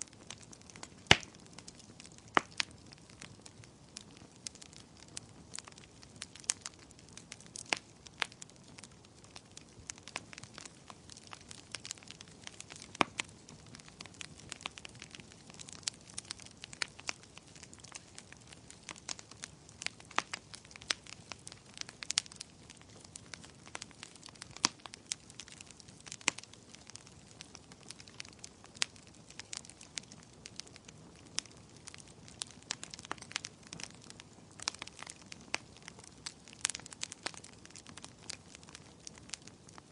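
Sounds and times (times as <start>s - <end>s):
fire crackling and popping: 0.0s - 39.9s
soft steady hiss: 0.0s - 39.9s.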